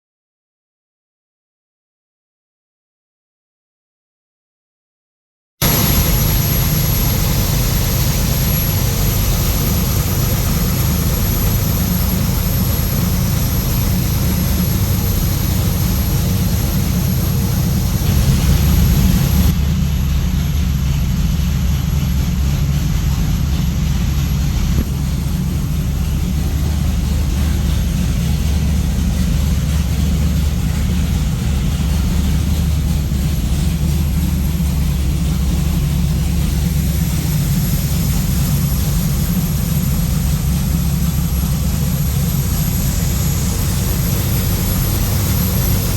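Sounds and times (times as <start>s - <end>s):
engine running on dyno: 5.6s - 45.9s.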